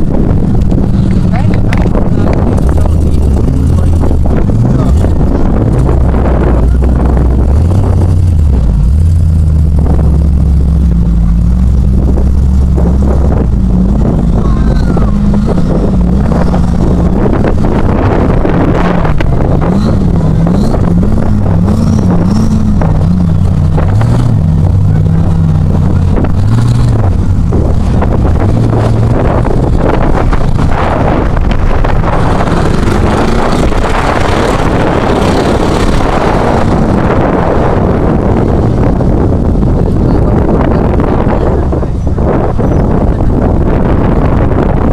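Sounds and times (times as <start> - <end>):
off-road engine revving: 0.0 - 44.9.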